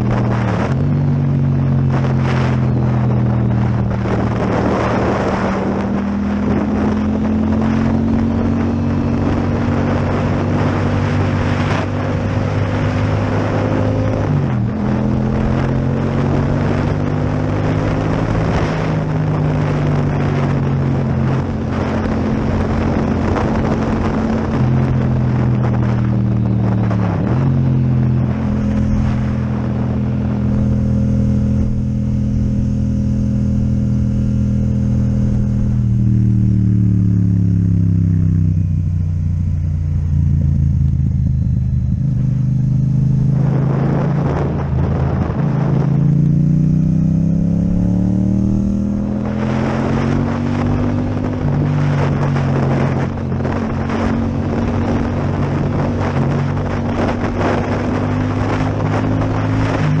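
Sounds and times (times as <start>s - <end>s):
motorcycle engine running: 0.0s - 60.0s
wind rushing over microphone: 0.0s - 60.0s.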